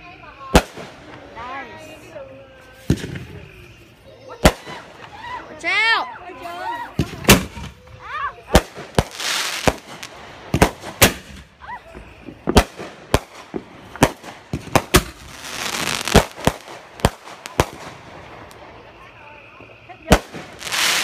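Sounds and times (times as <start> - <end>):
fireworks bangs: 0.0 - 21.0
fireworks crackling hiss: 0.0 - 21.0.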